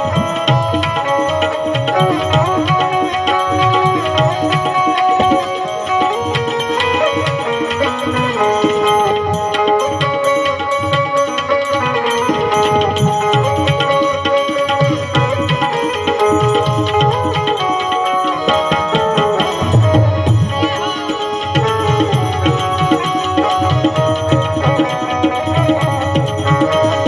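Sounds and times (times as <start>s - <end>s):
tabla playing steady rhythm: 0.0s - 27.0s.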